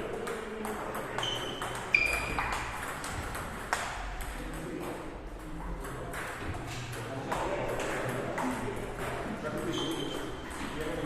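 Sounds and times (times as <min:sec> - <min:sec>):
table tennis balls clicking: 0:00.0 - 0:10.8.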